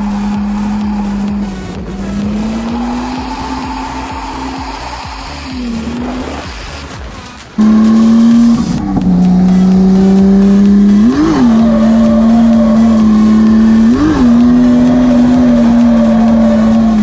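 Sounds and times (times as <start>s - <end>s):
car engine held at high revs: 0.0s - 17.0s
engine rev blips: 0.0s - 17.0s.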